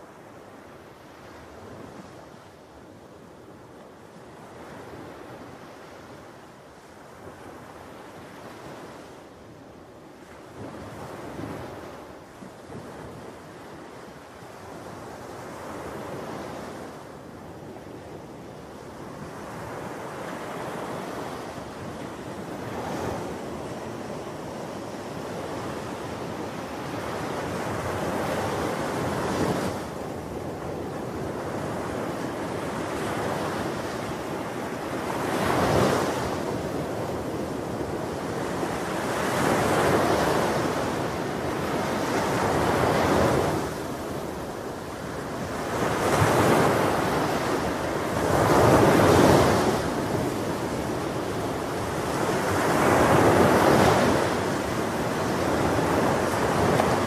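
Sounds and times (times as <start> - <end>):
waves breaking on sandy beach: 0.0 - 57.0
wind blowing over microphone: 0.0 - 57.0.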